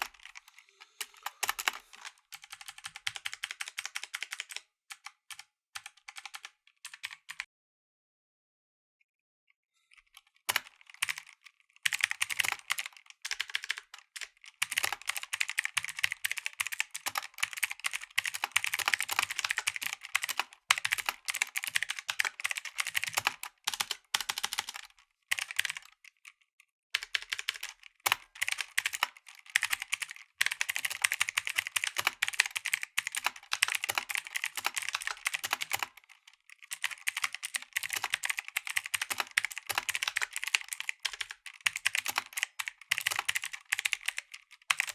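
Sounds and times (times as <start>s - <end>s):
clicky mechanical keyboard typing: 0.0s - 7.5s, 10.0s - 26.4s, 27.0s - 44.9s.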